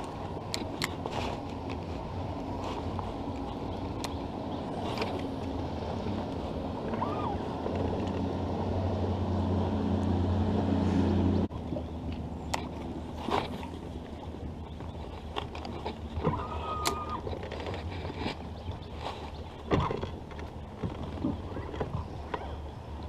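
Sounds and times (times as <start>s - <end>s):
outboard motor running: 0.0s - 23.0s
wind: 0.0s - 23.0s.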